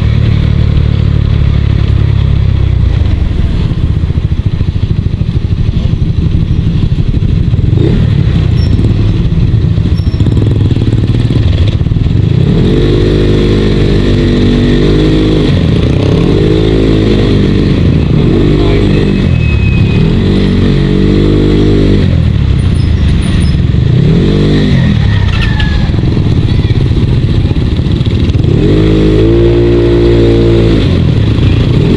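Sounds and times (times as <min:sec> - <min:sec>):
motorcycle engine revving: 0:00.0 - 0:31.9
wind and road noise rumble: 0:00.0 - 0:31.9.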